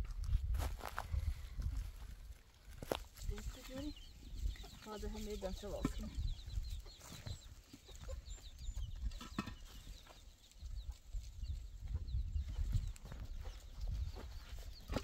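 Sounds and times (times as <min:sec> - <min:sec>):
wind rumble on microphone: 0:00.0 - 0:07.5, 0:08.1 - 0:15.0
birds chirping: 0:02.5 - 0:15.0.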